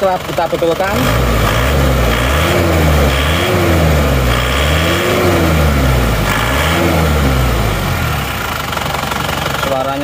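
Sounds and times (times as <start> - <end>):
diesel engine revving: 0.0 - 10.0.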